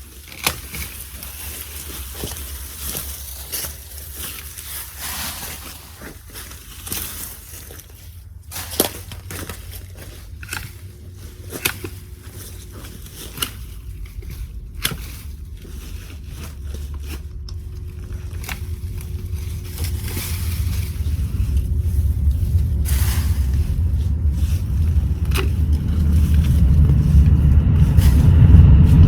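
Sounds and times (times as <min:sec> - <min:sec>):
leafy branches rustling: 0:00.0 - 0:29.0
loppers snipping branches: 0:00.0 - 0:29.0.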